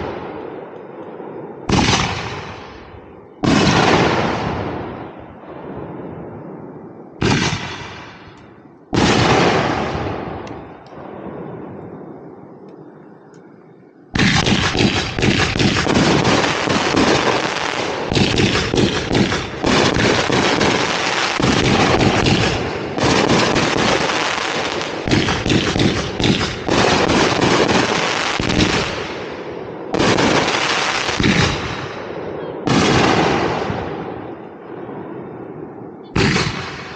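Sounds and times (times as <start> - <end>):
fireworks launching and crackling: 0.0 - 12.9, 14.1 - 35.3, 36.0 - 36.9.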